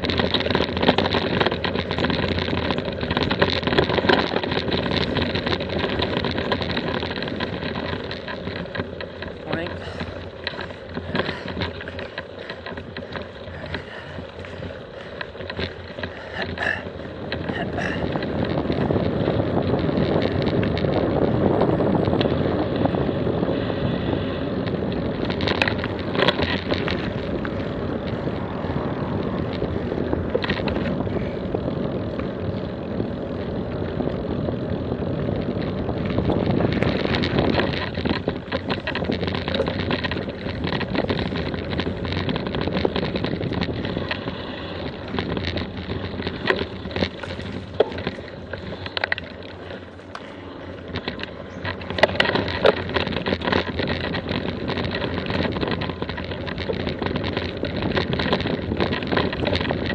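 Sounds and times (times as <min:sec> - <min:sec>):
bike tyres on rough track: 0:00.0 - 0:59.9
wind rushing over microphone: 0:00.0 - 0:59.9.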